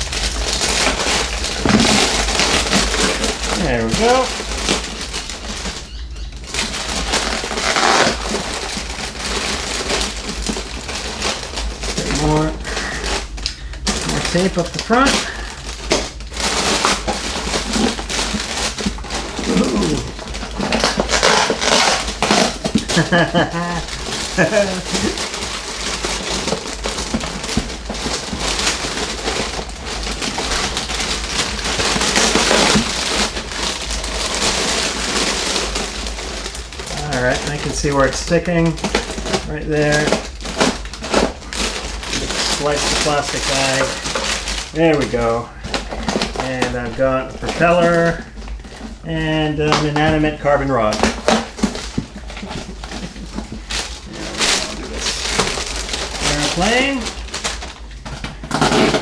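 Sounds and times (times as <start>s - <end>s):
plastic and foam crinkling: 0.0s - 59.0s.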